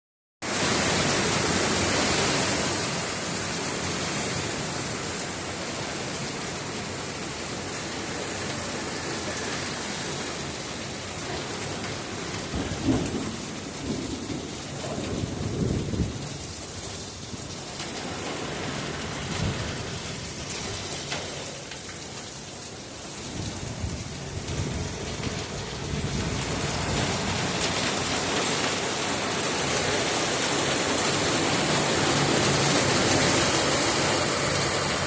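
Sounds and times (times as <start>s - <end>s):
heavy rain and hail pelting: 0.4s - 35.0s.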